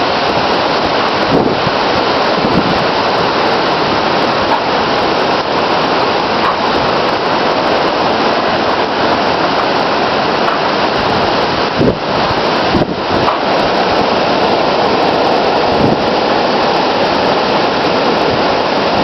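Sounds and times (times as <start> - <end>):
hurricane wind and rain: 0.0 - 19.0.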